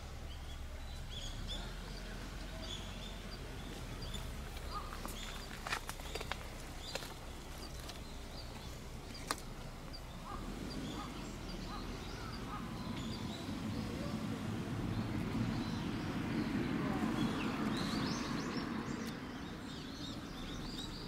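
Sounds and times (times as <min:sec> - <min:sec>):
distant birds chirping: 0:00.0 - 0:21.0.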